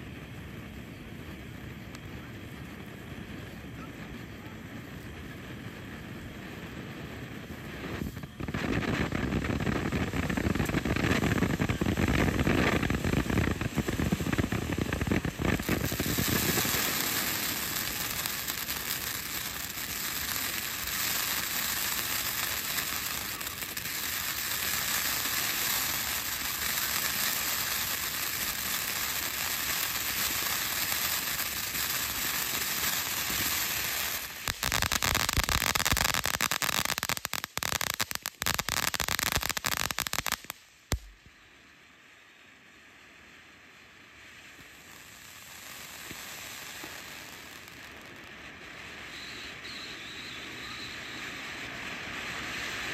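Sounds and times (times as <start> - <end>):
firework crackling: 0.0 - 52.9
firework hissing spray: 4.8 - 41.3, 43.7 - 52.9.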